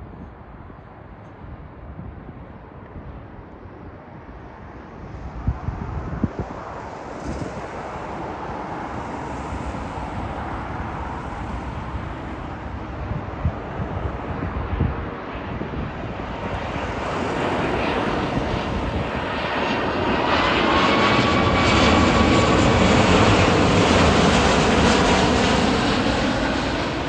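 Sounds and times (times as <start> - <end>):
jet engine rumble: 0.0 - 27.0
wind buffeting microphone: 0.0 - 27.0.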